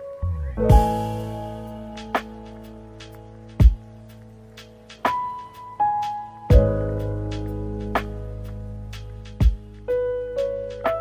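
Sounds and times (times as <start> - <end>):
instrumental music with held tones: 0.0 - 11.0.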